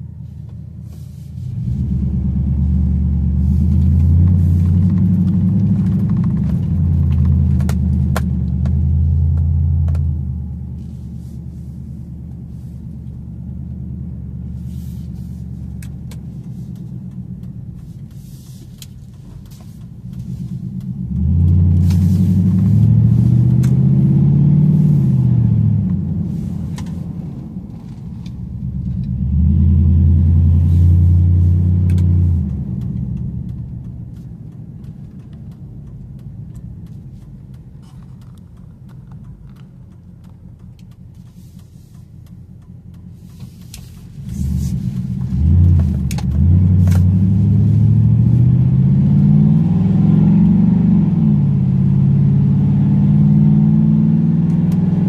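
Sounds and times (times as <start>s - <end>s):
truck engine and exhaust drone: 0.0s - 55.0s.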